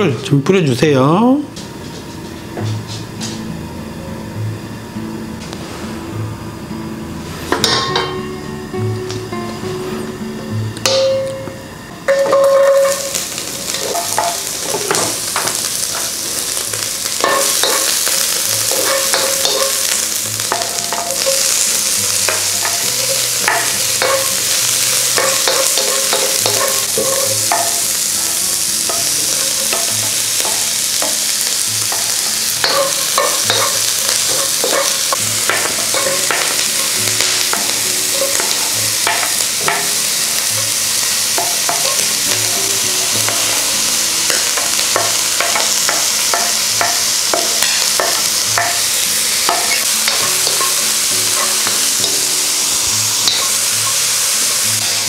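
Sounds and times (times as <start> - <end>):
vegetables sizzling in oil: 6.8 - 55.0.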